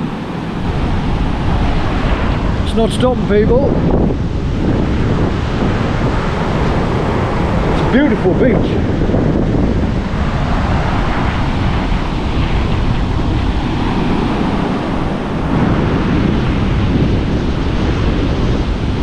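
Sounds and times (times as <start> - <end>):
surf breaking on shore: 0.0 - 19.0
wind rumbling on microphone: 0.0 - 19.0.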